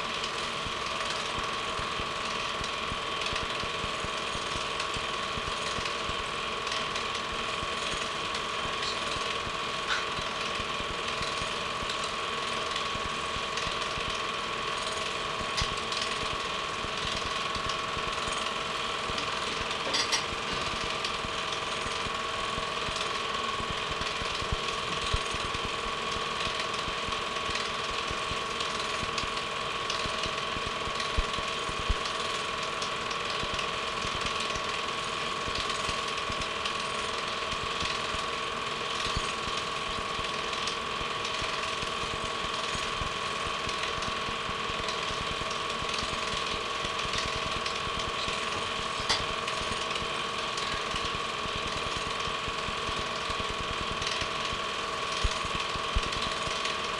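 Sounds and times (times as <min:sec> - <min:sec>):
constant hum: 0:00.0 - 0:56.9
film projector clattering: 0:00.0 - 0:56.9.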